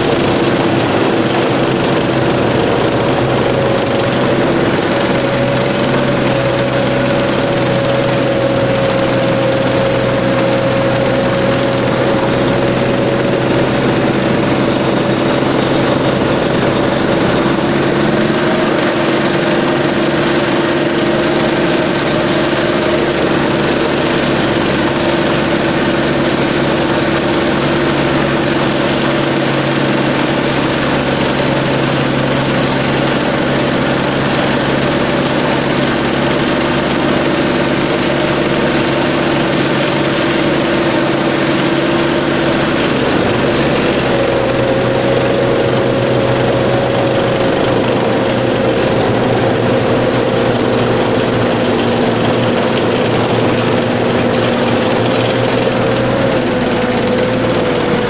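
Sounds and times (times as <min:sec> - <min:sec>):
tank engine drone: 0:00.0 - 0:58.0.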